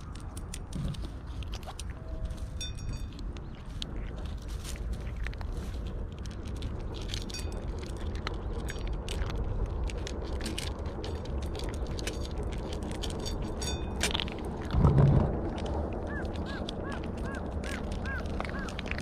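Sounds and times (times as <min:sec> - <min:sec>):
cats crunching dry kibble: 0:00.0 - 0:19.0
steady low rumble: 0:00.0 - 0:19.0.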